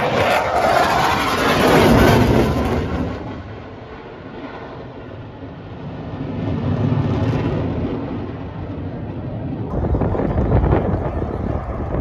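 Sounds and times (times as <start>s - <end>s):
fighter jet flying overhead: 0.0s - 12.0s.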